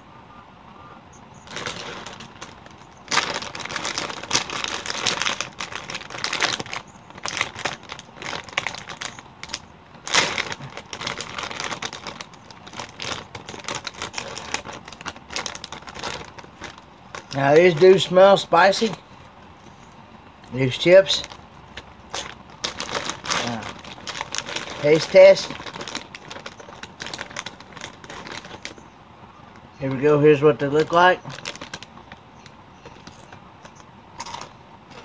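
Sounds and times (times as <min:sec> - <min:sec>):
foil chip bag crinkling: 0:01.4 - 0:28.9, 0:29.6 - 0:35.0.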